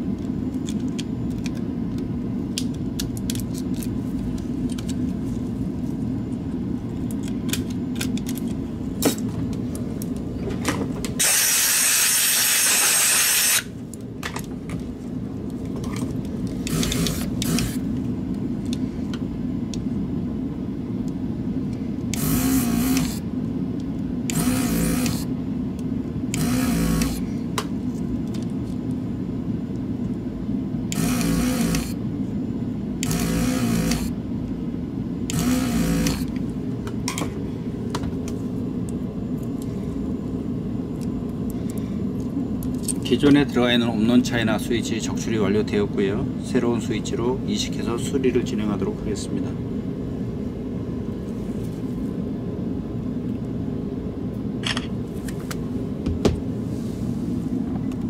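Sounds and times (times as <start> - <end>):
electric hum of equipment: 0.0 - 58.0.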